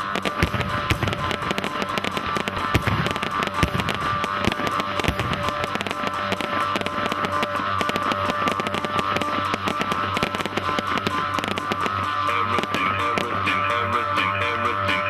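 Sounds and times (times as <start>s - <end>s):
fireworks popping and crackling: 0.0s - 15.0s.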